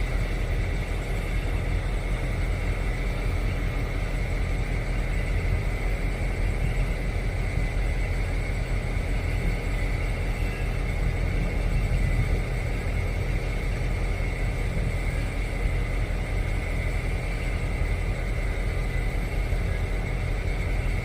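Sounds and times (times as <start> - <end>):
high-pitched whine: 0.0 - 21.0
low mechanical rumble: 0.0 - 21.0.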